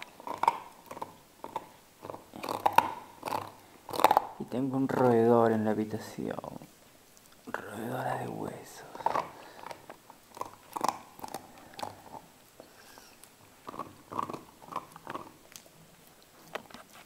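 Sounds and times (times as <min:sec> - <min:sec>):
dog crunching bone: 0:00.0 - 0:07.5, 0:08.2 - 0:17.0.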